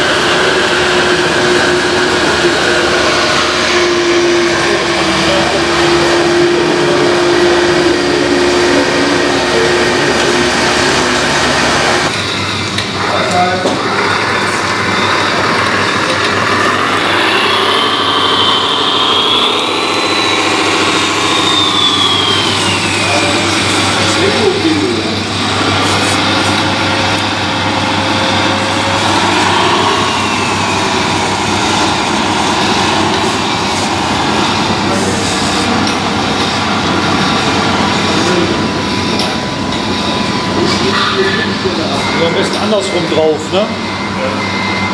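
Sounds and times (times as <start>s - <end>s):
low hum: 0.0s - 13.1s, 13.7s - 44.9s
dense mechanical running noise: 0.0s - 44.9s
electric motor whine: 0.0s - 44.9s.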